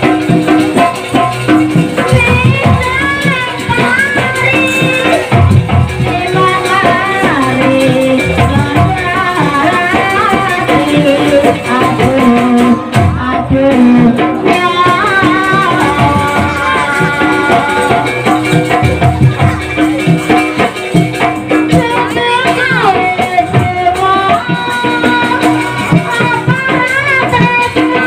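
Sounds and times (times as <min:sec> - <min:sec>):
drums: 0:00.0 - 0:28.0
rattling percussion: 0:00.0 - 0:28.0.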